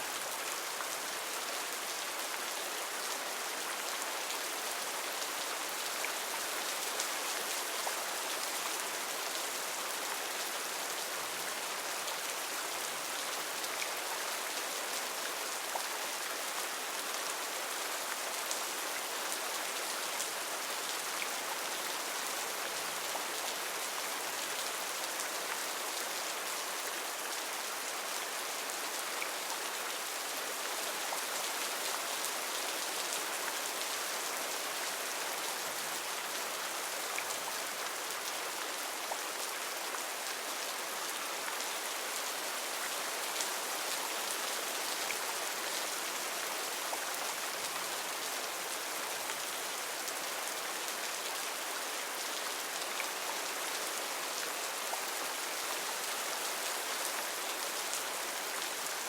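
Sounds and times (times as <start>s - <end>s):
heavy rain on foliage: 0.0s - 59.0s.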